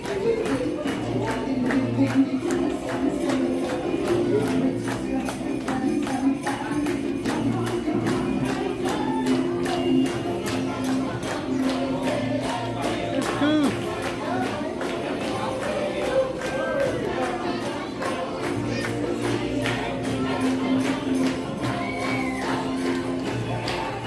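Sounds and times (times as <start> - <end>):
music with percussion beat: 0.0 - 17.4, 18.0 - 24.0.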